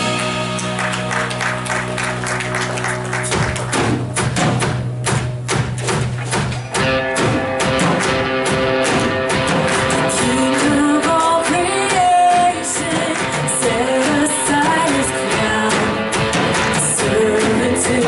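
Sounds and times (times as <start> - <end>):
worship band playing: 0.0 - 18.0.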